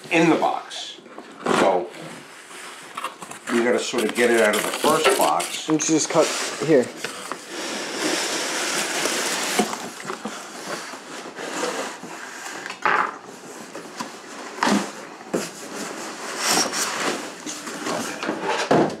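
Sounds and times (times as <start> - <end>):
cardboard boxes scraping and rustling: 1.6 - 12.6, 13.2 - 18.8.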